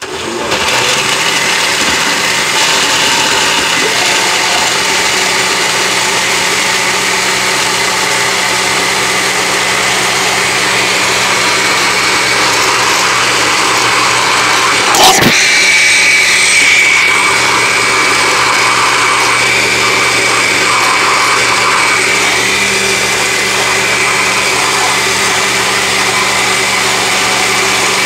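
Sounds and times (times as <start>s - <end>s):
blender motor running: 0.0s - 28.0s.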